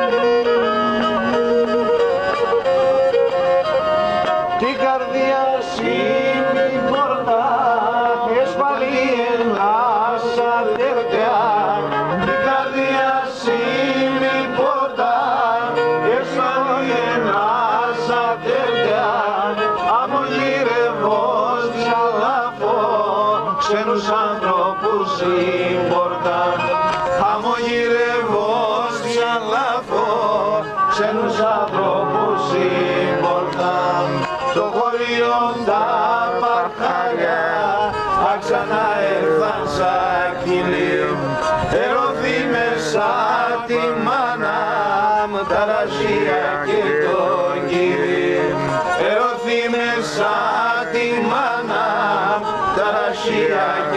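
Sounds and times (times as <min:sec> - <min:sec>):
bowed lyra playing folk tune: 0:00.0 - 0:53.9.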